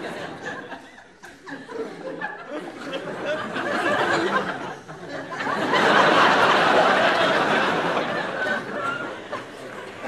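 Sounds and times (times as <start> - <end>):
audience laughing: 0.0 - 10.0.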